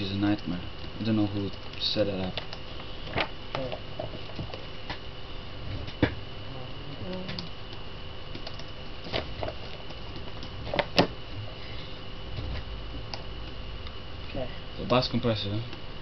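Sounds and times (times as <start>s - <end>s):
equipment hum: 0.0s - 16.0s.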